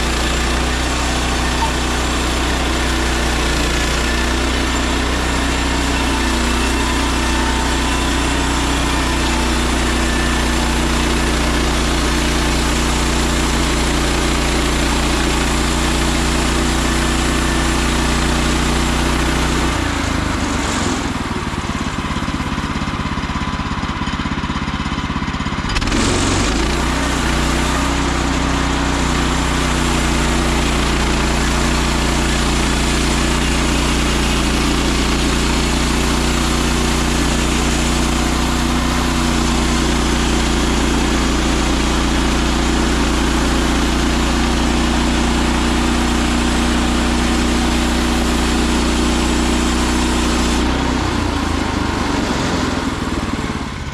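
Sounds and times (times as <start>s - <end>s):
sawmill gasoline engine running: 0.0s - 53.9s.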